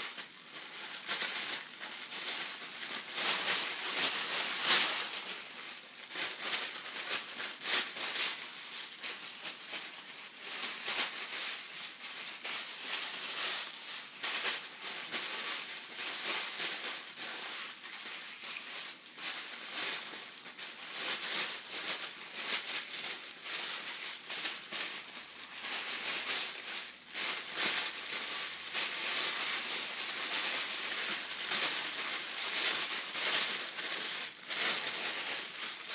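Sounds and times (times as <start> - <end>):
tissue paper rustling: 0.0 - 35.9.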